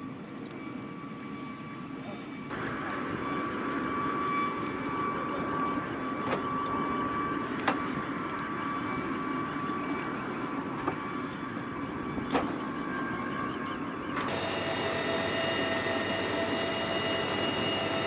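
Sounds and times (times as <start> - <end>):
helicopter turbine whine: 0.0 - 18.0.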